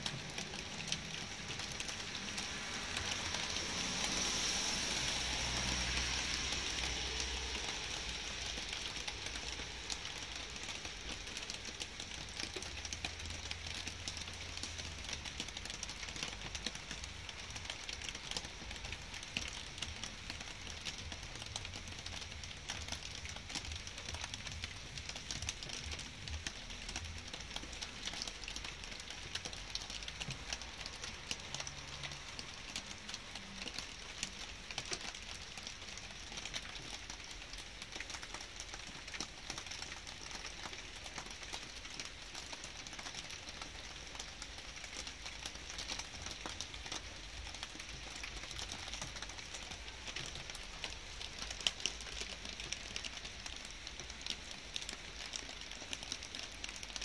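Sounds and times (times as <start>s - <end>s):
rain hiss: 0.0s - 57.0s
raindrops pattering: 0.0s - 57.0s.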